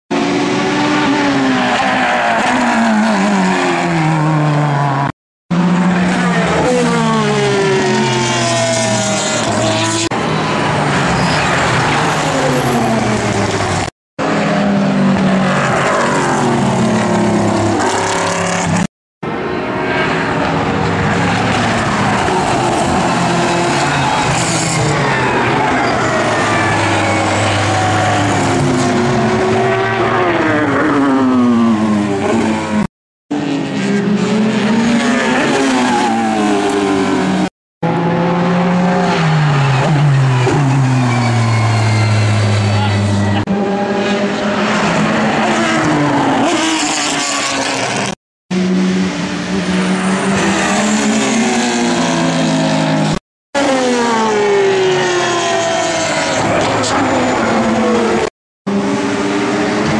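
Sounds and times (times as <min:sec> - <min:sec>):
racing car engines revving: 0:00.1 - 0:59.9.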